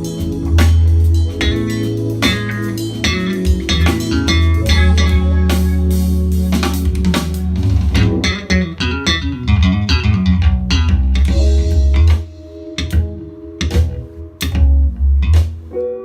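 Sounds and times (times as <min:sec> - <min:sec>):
instrumental music through speakers: 0:00.0 - 0:16.0.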